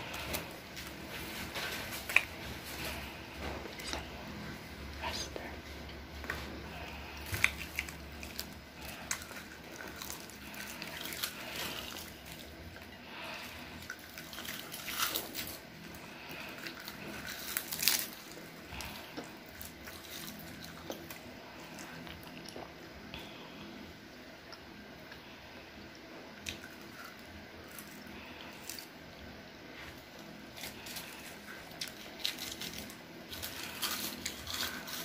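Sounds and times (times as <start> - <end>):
crunchy snack being chewed: 0.0 - 4.4, 6.2 - 23.3, 26.4 - 29.0, 29.7 - 35.0.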